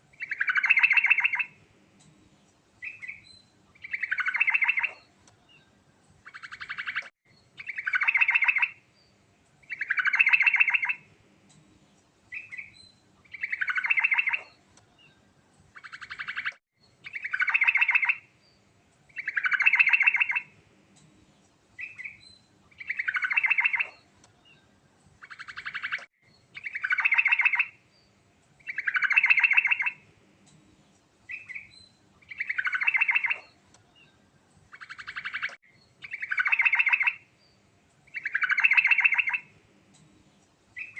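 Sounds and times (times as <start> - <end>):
bird rapid trilled song: 0.1 - 1.6, 2.8 - 11.1, 12.3 - 20.6, 21.8 - 30.0, 31.3 - 39.5.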